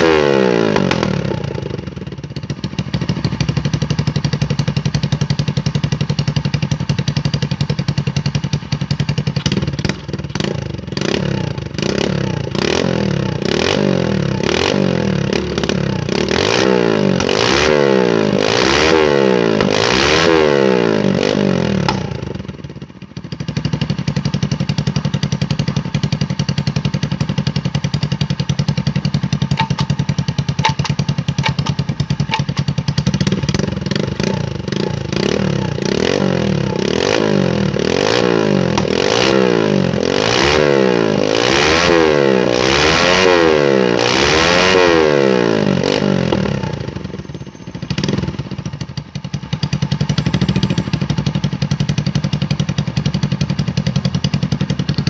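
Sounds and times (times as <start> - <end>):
chainsaw engine revving and idling: 0.0 - 55.0.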